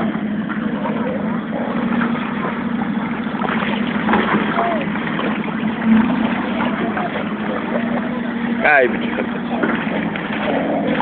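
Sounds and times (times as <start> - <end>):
dogs splashing in water: 0.0 - 11.0
faint voices: 0.0 - 11.0
steady low hum: 0.0 - 11.0.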